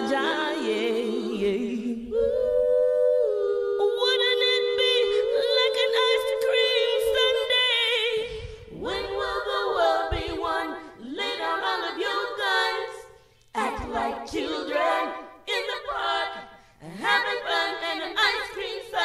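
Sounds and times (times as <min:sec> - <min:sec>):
a cappella vocal harmonies: 0:00.0 - 0:19.0.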